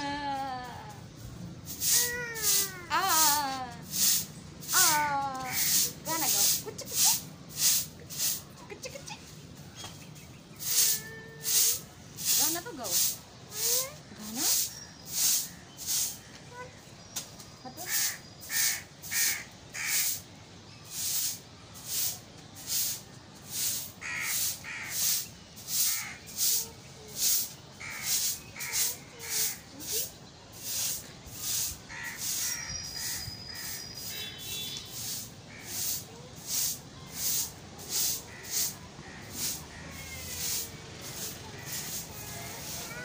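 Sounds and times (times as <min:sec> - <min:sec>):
broom sweeping concrete floor: 0:01.2 - 0:16.4, 0:17.9 - 0:20.2, 0:20.9 - 0:43.0.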